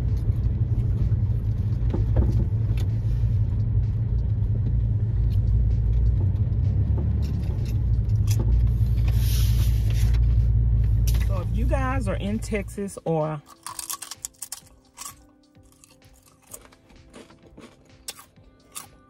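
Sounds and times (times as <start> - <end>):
van road and engine rumble: 0.0 - 18.6.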